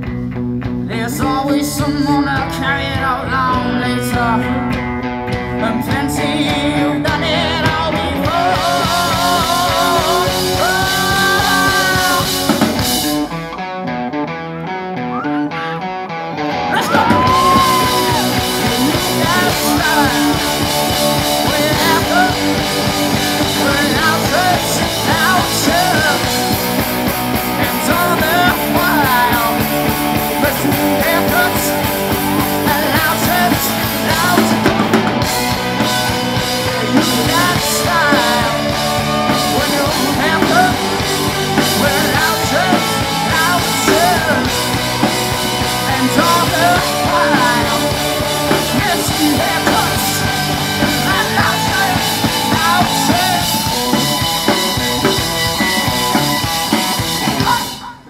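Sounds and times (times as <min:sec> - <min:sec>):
drum kit: 0:00.0 - 0:13.9, 0:16.6 - 0:58.0
bass guitar: 0:00.0 - 0:58.0
electric guitars: 0:00.0 - 0:58.0.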